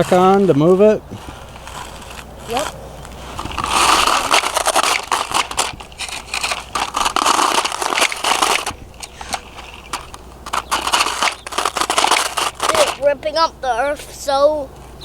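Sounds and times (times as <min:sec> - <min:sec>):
toy digger scraping dirt: 0:00.0 - 0:13.4.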